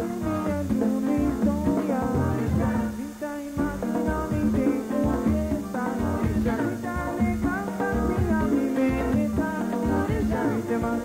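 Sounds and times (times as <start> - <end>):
live band playing latin music: 0.0 - 11.0
woman singing: 0.0 - 11.0.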